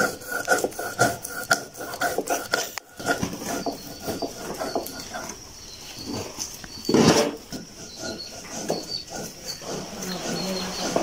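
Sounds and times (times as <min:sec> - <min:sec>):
stone roller grinding on stone slab: 0:00.0 - 0:11.0.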